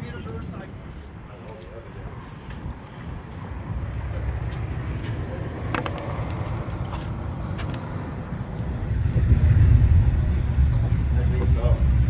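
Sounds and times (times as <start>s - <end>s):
road vehicles rumbling past: 0.0s - 12.0s.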